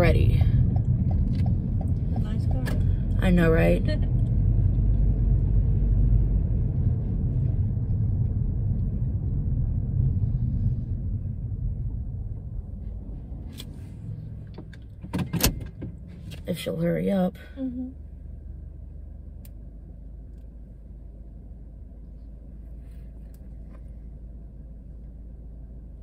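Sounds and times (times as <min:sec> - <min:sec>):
car rolling low rumble: 0:00.0 - 0:26.0.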